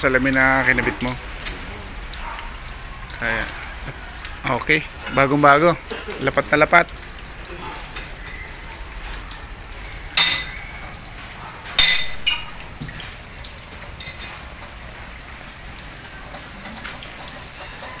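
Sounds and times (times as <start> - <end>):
light rain patter: 0.0 - 18.0.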